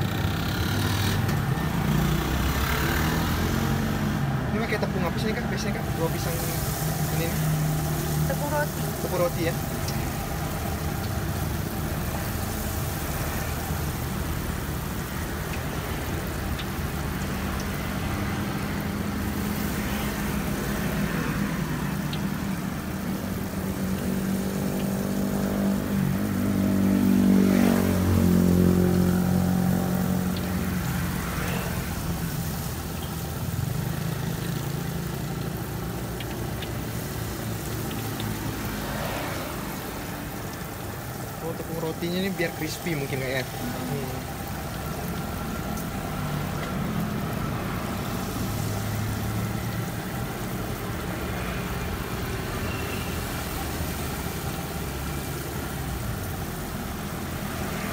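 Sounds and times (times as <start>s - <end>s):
food frying in oil: 0.0s - 57.9s
road traffic engine noise: 0.0s - 57.9s
vehicle passing close: 0.0s - 57.9s.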